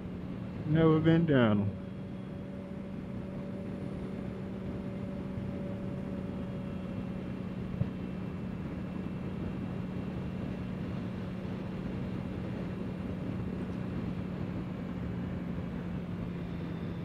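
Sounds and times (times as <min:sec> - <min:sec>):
motorcycle engine humming: 0:00.0 - 0:17.0.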